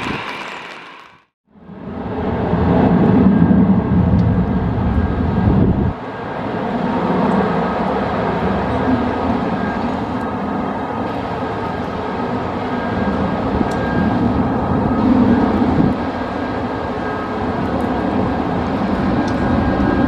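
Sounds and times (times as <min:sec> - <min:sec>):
jet engines roaring: 0:00.0 - 0:20.0
wind: 0:00.0 - 0:20.0.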